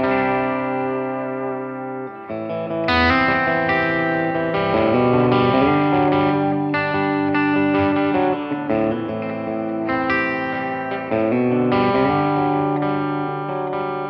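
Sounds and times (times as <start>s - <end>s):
electric guitar strummed chords: 0.0s - 14.0s.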